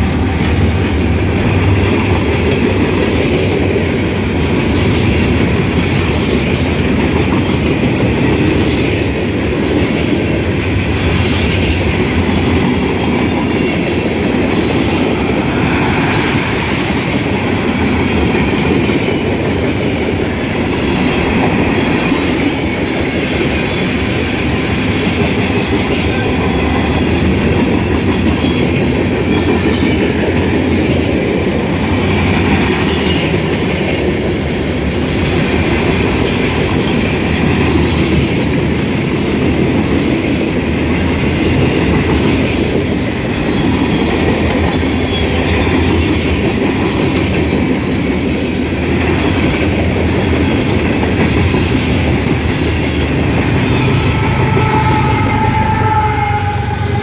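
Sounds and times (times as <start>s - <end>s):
diesel locomotive engine drone: 0.0s - 57.0s
steel wheels rumbling on rails: 0.0s - 57.0s.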